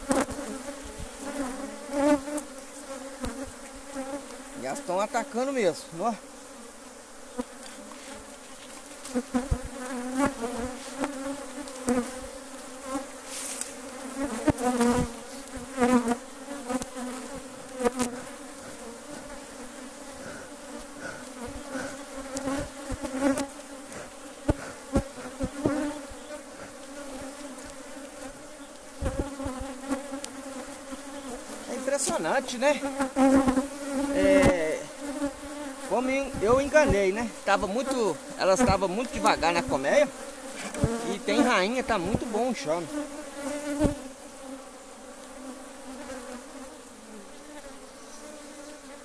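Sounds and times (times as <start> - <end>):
bee smoker puffing: 0.0 - 49.0
bees buzzing: 0.0 - 49.0.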